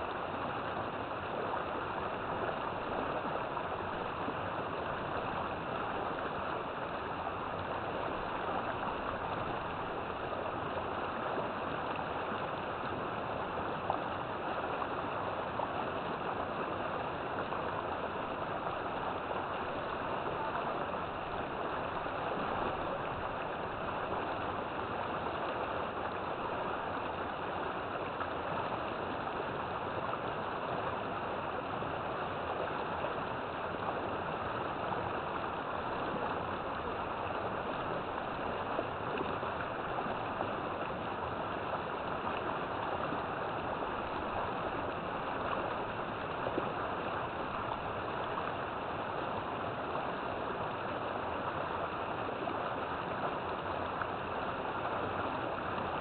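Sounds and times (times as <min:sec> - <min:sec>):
river water rushing and gurgling: 0:00.0 - 0:56.0.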